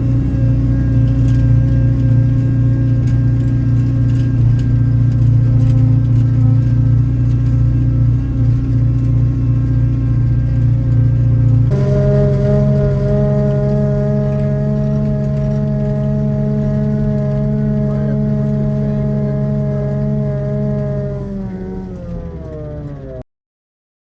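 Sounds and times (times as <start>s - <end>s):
engine humming steadily: 0.0s - 23.2s.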